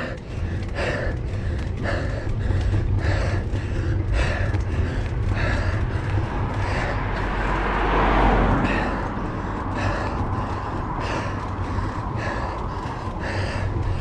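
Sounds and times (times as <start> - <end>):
person breathing hard: 0.0 - 14.0
steady low rumble: 0.0 - 14.0.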